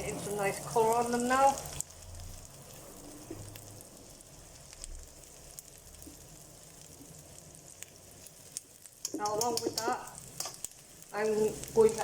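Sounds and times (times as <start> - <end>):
onion sizzling in a pan: 0.0 - 12.0.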